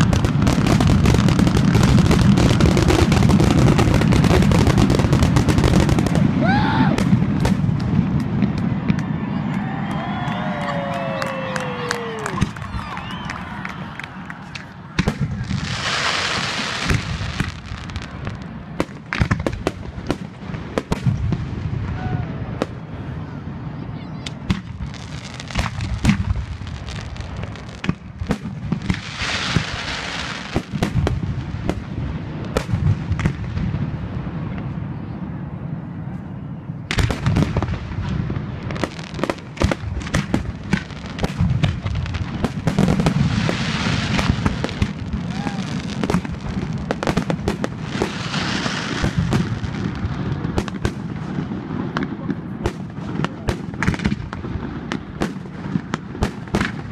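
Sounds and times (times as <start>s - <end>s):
fireworks bursting with sharp bangs: 0.0s - 56.9s.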